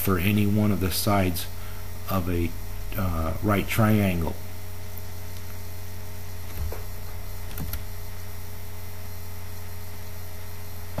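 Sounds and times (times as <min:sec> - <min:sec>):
electrical mains hum with hiss: 0:00.0 - 0:11.0.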